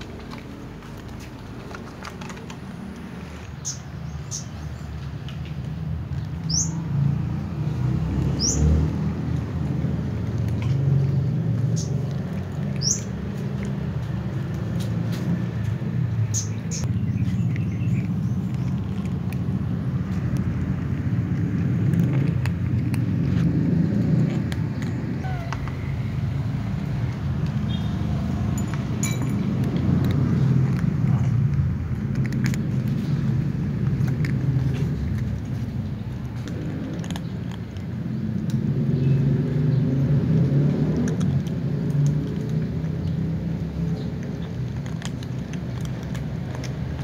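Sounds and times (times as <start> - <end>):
cats crunching dry kibble: 0.0 - 16.2, 16.8 - 47.0.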